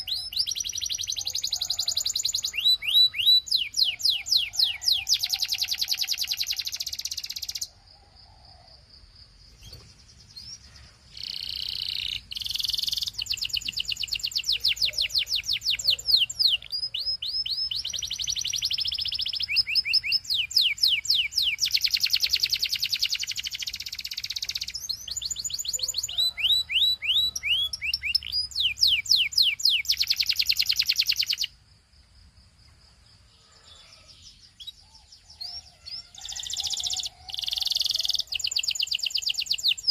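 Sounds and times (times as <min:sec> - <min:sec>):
canary singing: 0:00.0 - 0:07.7, 0:09.6 - 0:31.6, 0:33.7 - 0:39.9.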